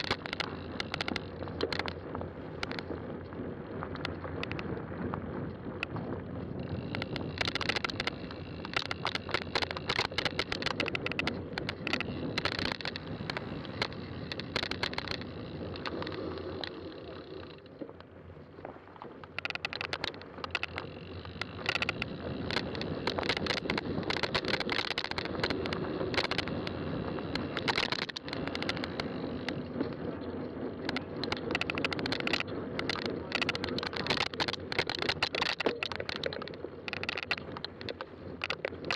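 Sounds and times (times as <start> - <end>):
bicycle tyres on rough trail: 0.0 - 38.9
bike clicking and rattling: 0.0 - 38.9.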